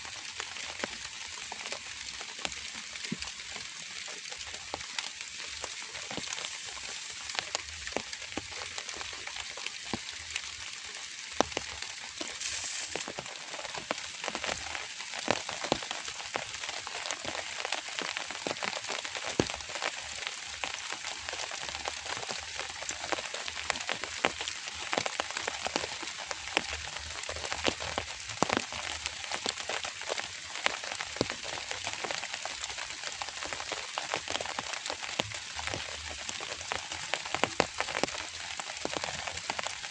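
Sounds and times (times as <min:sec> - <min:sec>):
light rain falling: 0:00.0 - 0:39.9
raindrops tapping a surface: 0:00.0 - 0:39.9.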